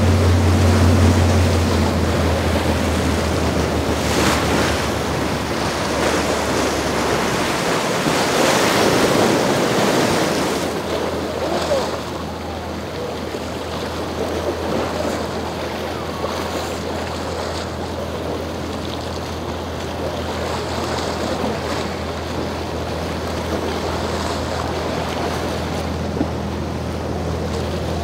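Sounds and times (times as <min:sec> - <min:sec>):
motorboat engines droning: 0:00.0 - 0:28.0
waves washing and churning: 0:00.0 - 0:28.0.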